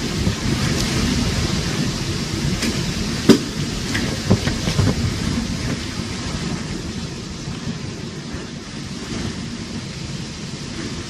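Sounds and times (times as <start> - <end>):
wind gusting against microphone: 0.0 - 11.0.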